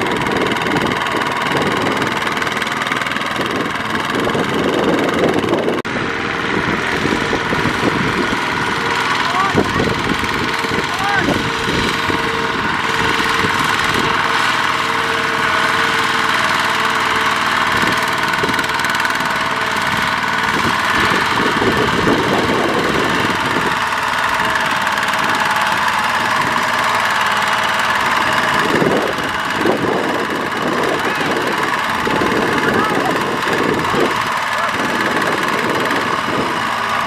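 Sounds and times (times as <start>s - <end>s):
diesel engine running: 0.0s - 37.0s
wheels churning through mud: 0.0s - 37.0s.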